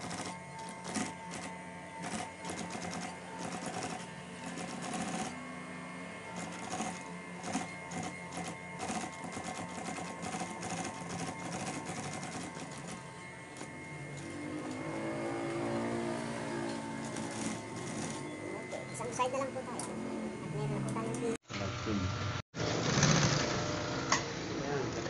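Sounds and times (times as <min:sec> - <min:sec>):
motor hum: 0:00.0 - 0:25.0.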